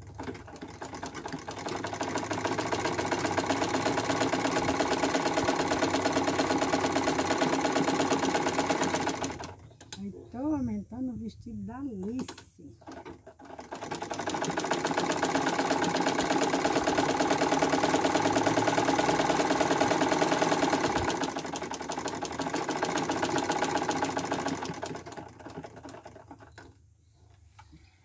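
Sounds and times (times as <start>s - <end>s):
sewing machine stitching: 0.0s - 10.0s, 12.0s - 26.8s.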